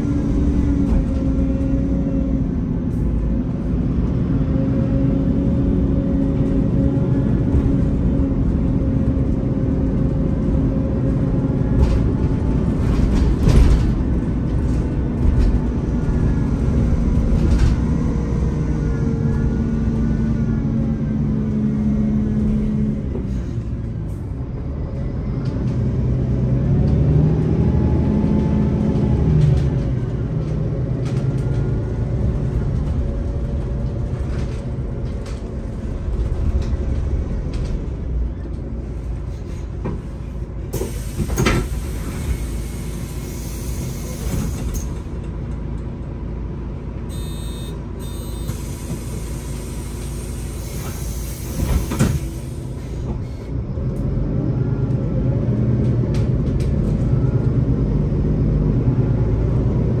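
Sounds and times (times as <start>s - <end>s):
bus engine rumble: 0.0s - 60.0s
road noise: 0.0s - 60.0s.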